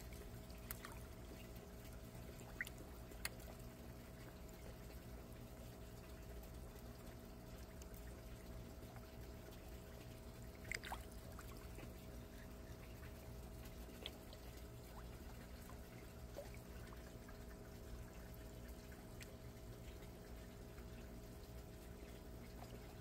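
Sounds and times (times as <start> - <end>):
low steady hum: 0.0 - 23.0
water trickling into tank: 0.0 - 23.0.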